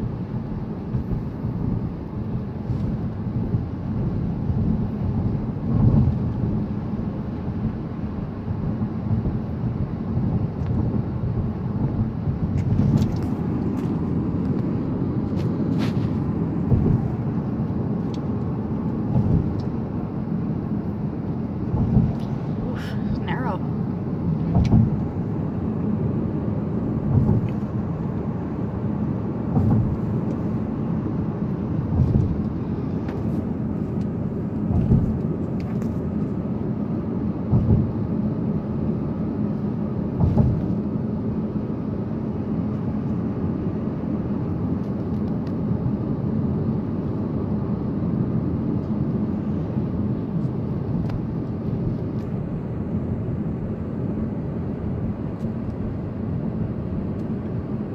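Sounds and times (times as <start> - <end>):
road and tyre noise in car: 0.0 - 57.9.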